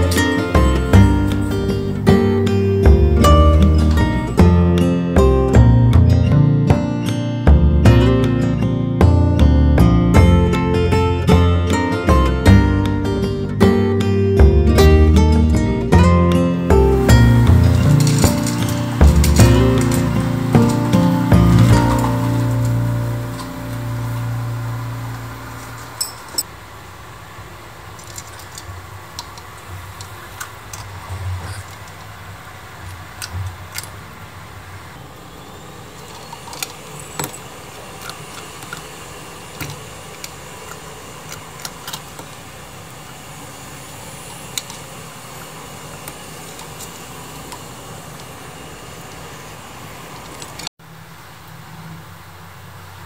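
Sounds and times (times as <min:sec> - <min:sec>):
low background hum: 0:00.0 - 0:50.7.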